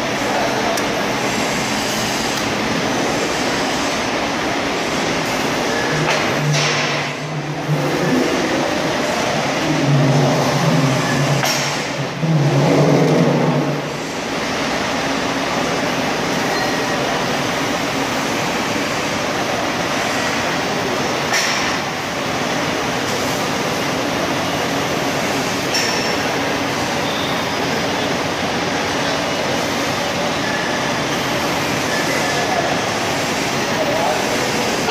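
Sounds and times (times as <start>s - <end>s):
trolley mechanical running noise: 0.0s - 34.9s.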